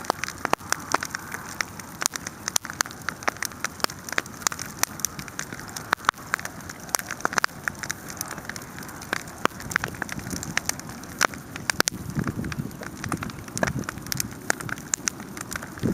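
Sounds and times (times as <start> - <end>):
wood fire crackling and popping: 0.0 - 15.9.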